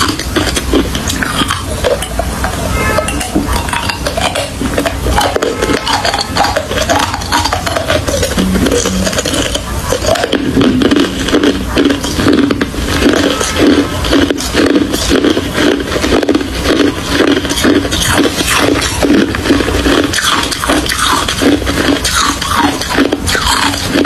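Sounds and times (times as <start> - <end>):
ice being chewed and crunched: 0.0 - 24.0.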